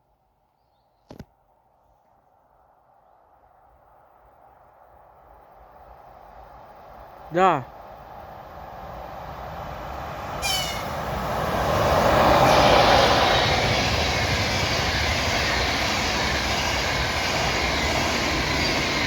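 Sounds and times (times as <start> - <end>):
train passing at speed: 2.4 - 19.0.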